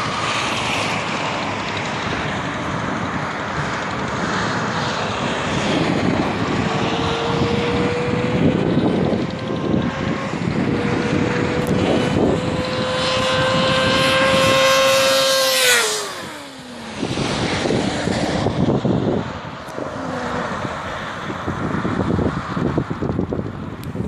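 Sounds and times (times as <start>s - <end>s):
motorcycle engine revving: 0.0s - 23.5s
wind noise: 0.0s - 24.0s.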